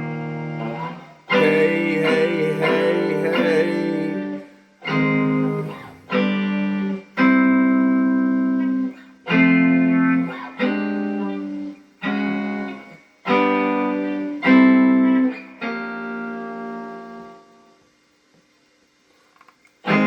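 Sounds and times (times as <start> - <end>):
guitar chords ringing: 0.0 - 17.8.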